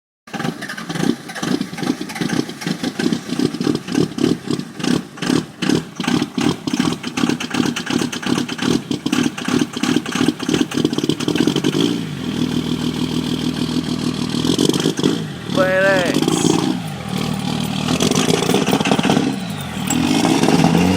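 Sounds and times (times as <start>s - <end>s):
vehicle engine idling: 0.5s - 20.9s.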